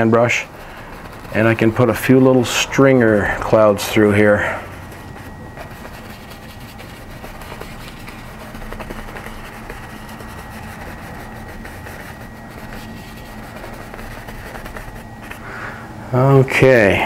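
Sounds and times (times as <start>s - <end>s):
high-pitched whine: 0.0s - 17.0s
low hum with hiss: 0.0s - 17.0s.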